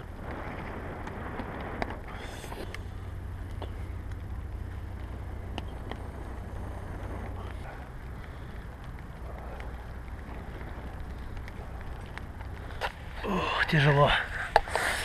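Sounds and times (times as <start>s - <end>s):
wind rumble on microphone: 0.0s - 15.0s
faint clicks: 0.2s - 13.2s.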